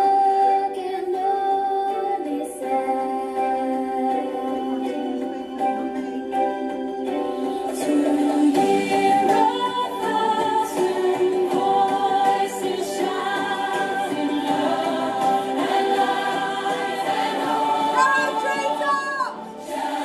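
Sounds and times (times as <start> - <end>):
women singing along: 0.0 - 6.3, 7.2 - 20.0
group singing over music: 0.0 - 20.0.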